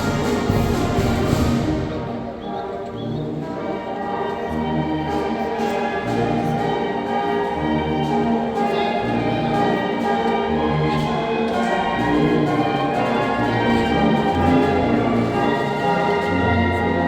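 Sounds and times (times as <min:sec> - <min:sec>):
wind band playing sustained chords: 0:00.0 - 0:17.0.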